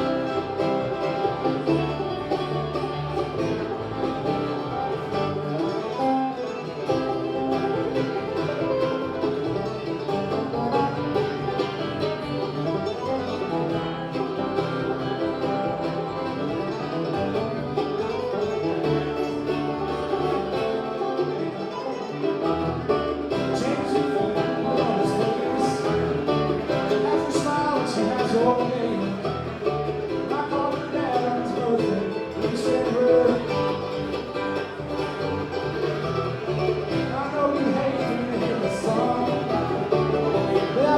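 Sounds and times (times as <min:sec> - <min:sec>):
bluegrass band playing: 0:00.0 - 0:40.9.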